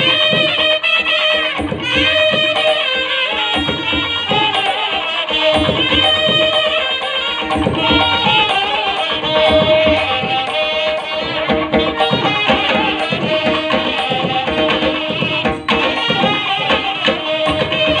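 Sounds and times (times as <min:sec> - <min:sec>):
hand drum rhythm: 0:00.0 - 0:18.0
sustained melodic line: 0:01.7 - 0:18.0.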